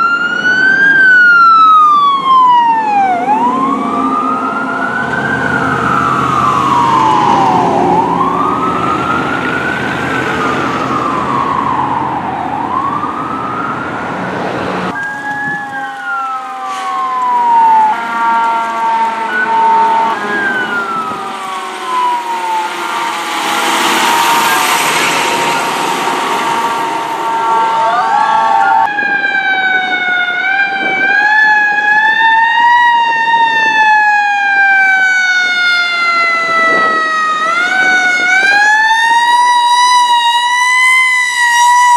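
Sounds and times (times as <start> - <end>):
fire truck siren wailing: 0.0 - 41.9
siren winding down: 0.0 - 41.9
truck engine and road noise: 0.0 - 41.9.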